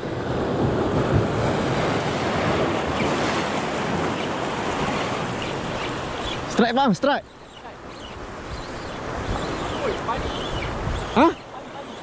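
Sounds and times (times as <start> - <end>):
sea waves rushing: 0.0 - 12.0
wind buffeting microphone: 0.0 - 12.0.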